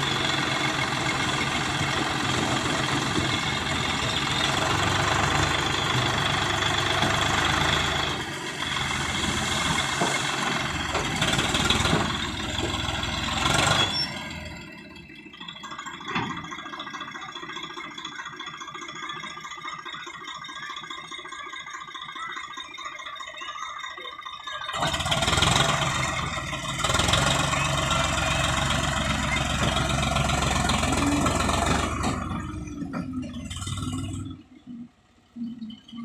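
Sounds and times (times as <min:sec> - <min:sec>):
tractor diesel engine idling: 0:00.0 - 0:36.0.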